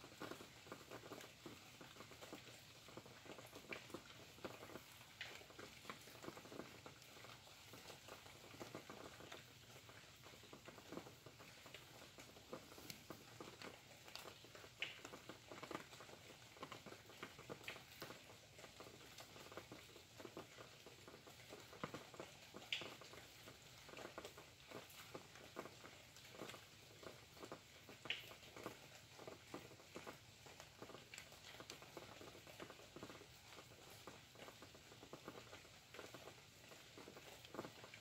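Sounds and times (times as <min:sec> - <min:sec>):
rain drops pattering: 0:00.0 - 0:38.0
soft steady hiss: 0:00.0 - 0:38.0.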